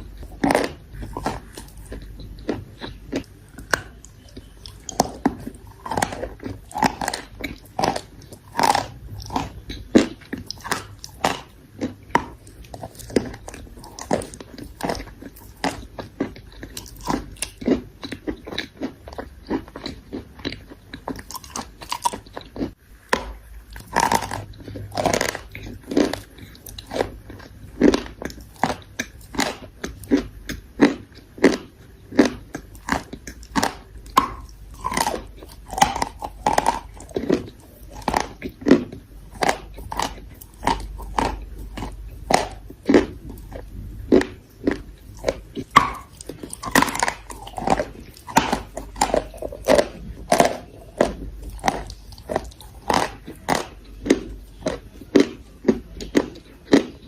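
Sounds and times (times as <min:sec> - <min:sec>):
chalk crunching while chewed: 0:00.0 - 0:57.0.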